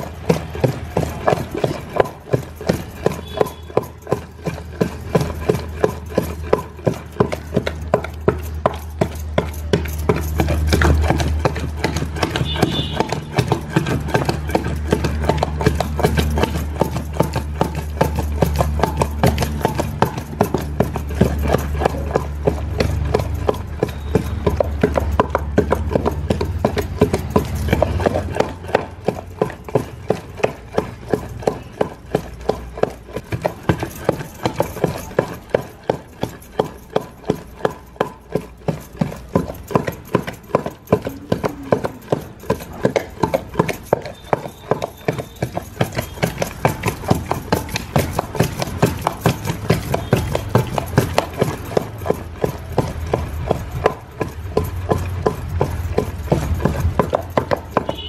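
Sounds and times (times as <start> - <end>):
rhythmic knocking: 0.0 - 44.6, 45.2 - 58.0.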